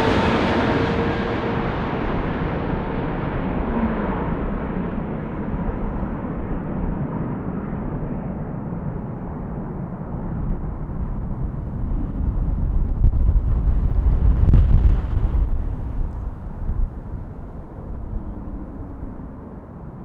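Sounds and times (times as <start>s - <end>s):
jet engine rumbling: 0.0s - 20.0s.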